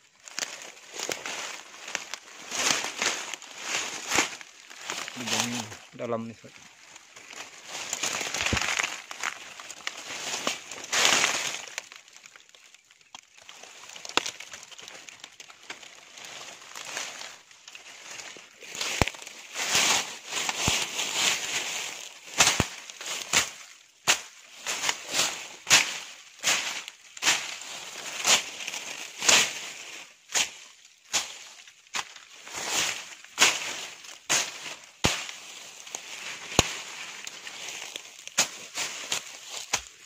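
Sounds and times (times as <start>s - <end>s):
dry leaves and twigs crackling: 0.0s - 40.0s
twigs snapping: 0.1s - 40.0s.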